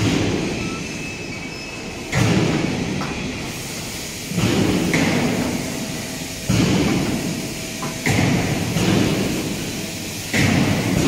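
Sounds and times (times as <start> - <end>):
factory machinery rumbling: 0.0 - 11.0.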